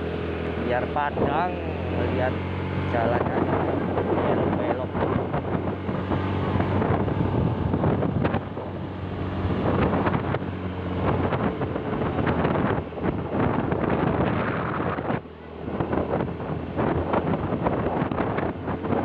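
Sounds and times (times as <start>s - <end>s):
vehicle engine running: 0.0s - 19.0s
wind buffeting microphone: 0.0s - 19.0s.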